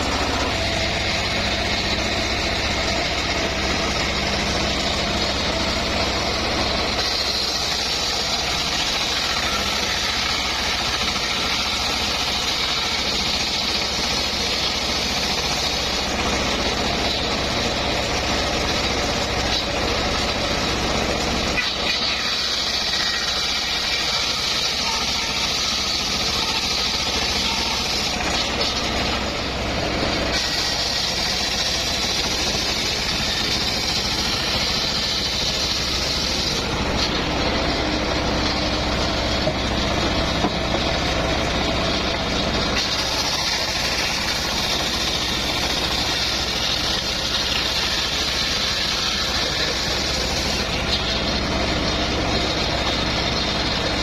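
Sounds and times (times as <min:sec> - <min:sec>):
saw blade cutting hiss: 0:00.0 - 0:29.5, 0:30.1 - 0:39.5, 0:42.7 - 0:53.0
sawmill engine running: 0:00.0 - 0:54.0.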